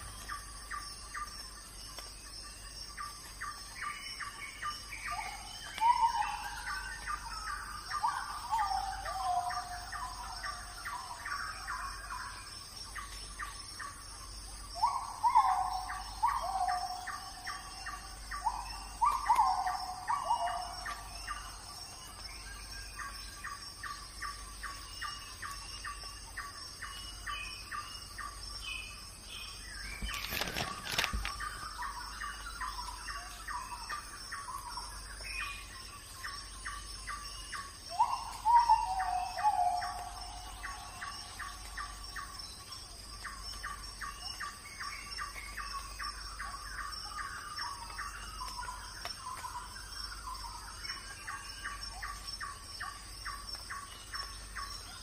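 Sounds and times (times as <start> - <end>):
bird chirps: 0.0 - 55.0.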